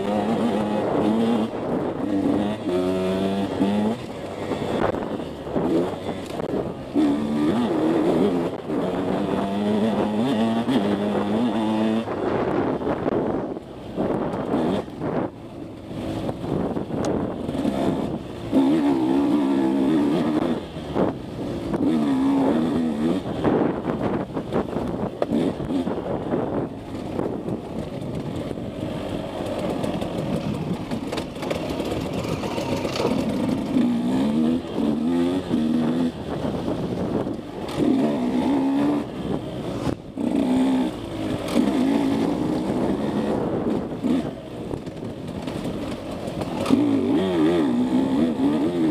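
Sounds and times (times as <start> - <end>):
dirt bike engine revving: 0.0 - 15.3, 15.9 - 48.9.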